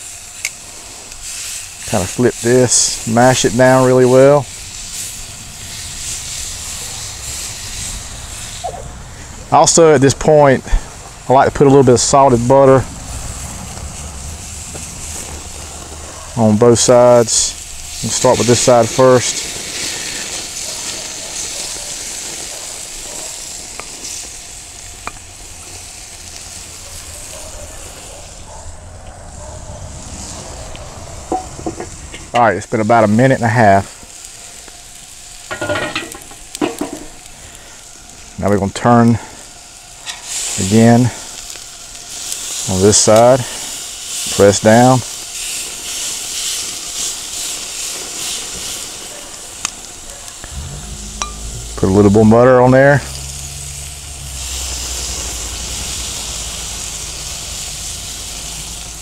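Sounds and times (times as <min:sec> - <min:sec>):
steaks sizzling on a grill: 0:00.0 - 0:59.0.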